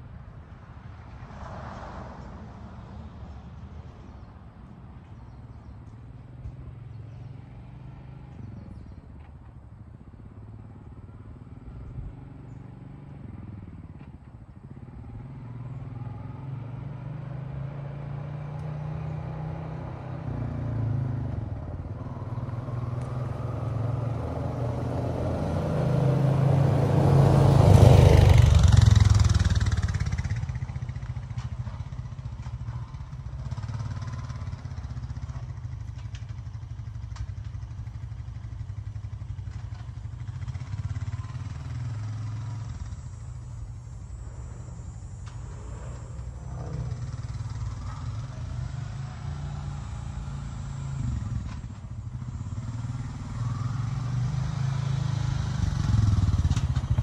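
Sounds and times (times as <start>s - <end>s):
quad bike engine passing: 5.0s - 57.0s.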